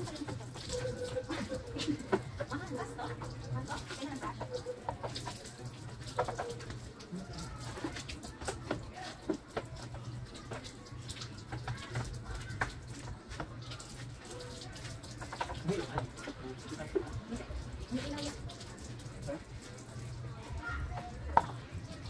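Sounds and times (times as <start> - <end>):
garden hose spraying water: 0.0 - 22.0.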